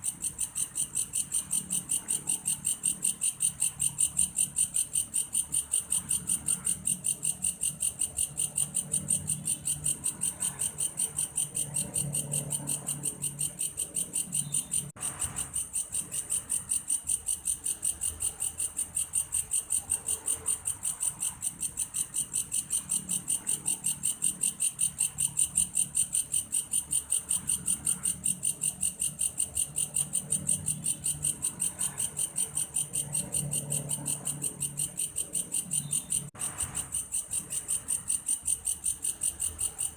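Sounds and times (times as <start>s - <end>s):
grasshopper pulsed trill: 0.0s - 39.9s.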